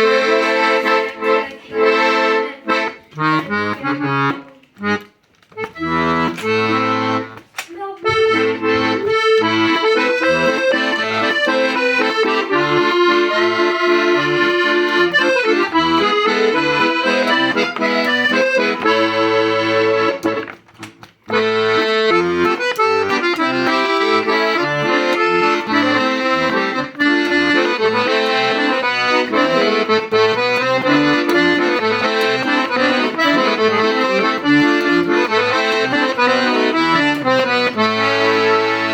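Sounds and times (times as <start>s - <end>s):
accordion melody: 0.0s - 38.9s.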